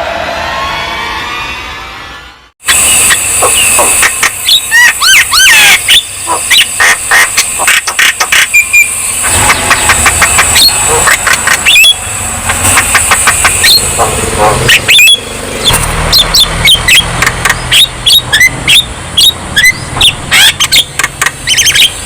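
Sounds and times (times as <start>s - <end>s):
bird calling with clicks and whistles: 2.7s - 22.0s.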